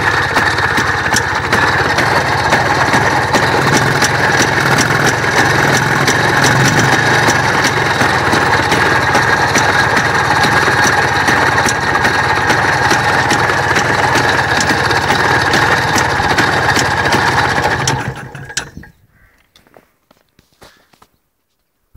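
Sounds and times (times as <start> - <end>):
engine ticking: 0.0 - 19.0
vehicle engine idling: 0.0 - 19.3.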